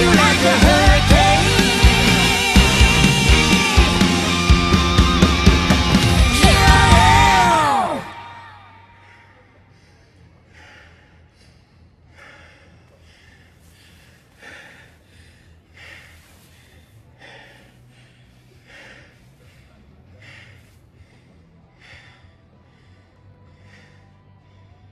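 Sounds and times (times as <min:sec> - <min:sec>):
heavy breathing: 0:00.0 - 0:24.9.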